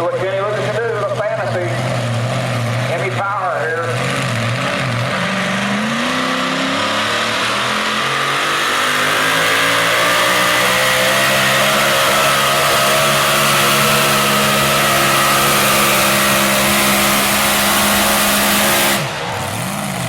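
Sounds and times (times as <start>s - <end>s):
pulling truck engine revving: 0.0s - 20.0s.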